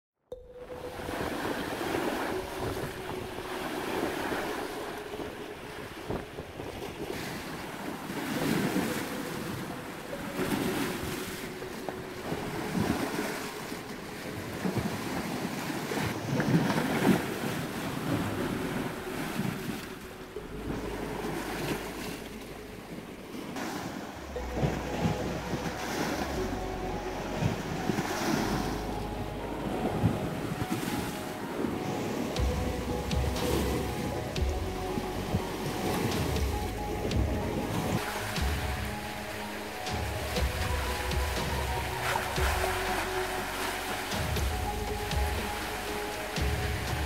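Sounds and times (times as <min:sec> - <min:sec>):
wind noise on microphone: 0:00.3 - 0:47.0
waves splashing against rocks: 0:00.7 - 0:47.0.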